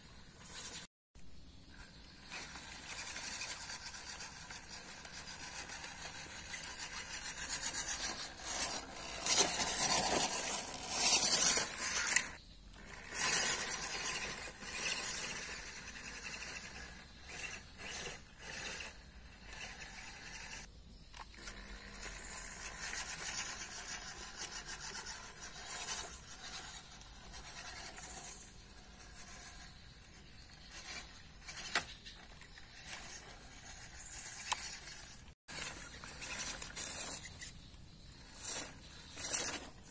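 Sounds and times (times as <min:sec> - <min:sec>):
toy car electric motor and gears: 0:00.0 - 0:00.9, 0:01.7 - 0:39.9.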